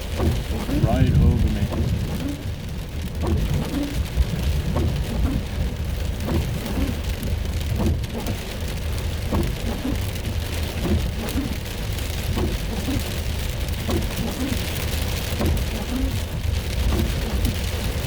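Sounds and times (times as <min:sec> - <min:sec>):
heavy rain drumming on car roof: 0:00.0 - 0:18.0.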